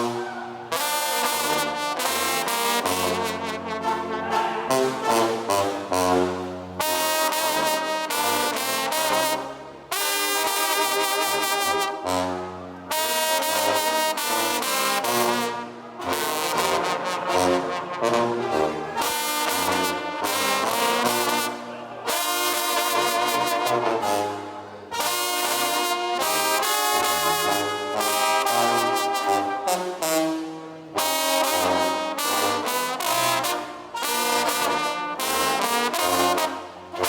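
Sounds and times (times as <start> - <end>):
horns playing melodic phrases: 0.0 - 37.0.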